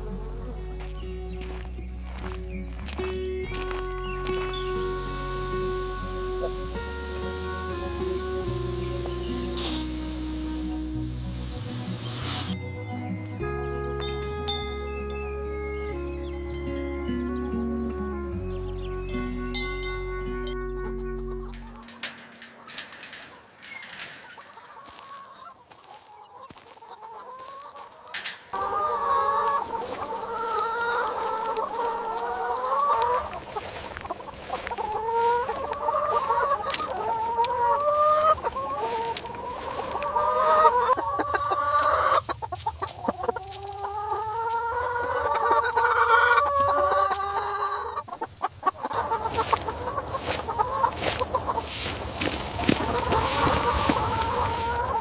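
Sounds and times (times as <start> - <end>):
chickens clucking and calling: 0.0 - 55.0.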